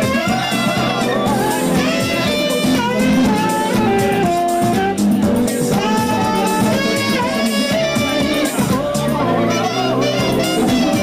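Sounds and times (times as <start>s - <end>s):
house music beat: 0.0s - 11.0s.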